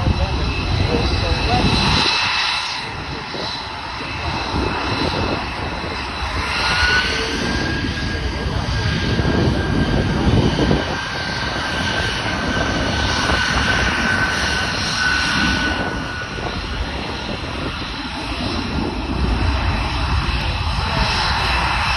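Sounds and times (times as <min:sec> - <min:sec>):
high jet whine: 0:00.0 - 0:21.9
jet aircraft flyby: 0:00.0 - 0:21.9.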